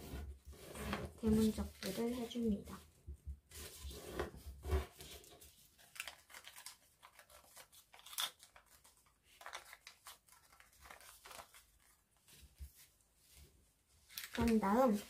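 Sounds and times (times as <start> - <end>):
paper rustling and crackling: 0.0 - 2.9, 3.5 - 15.0.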